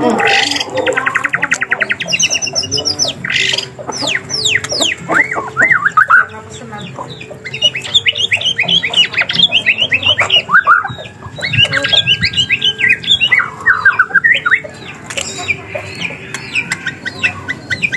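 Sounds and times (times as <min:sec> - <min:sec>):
songbird singing: 0:00.0 - 0:17.9.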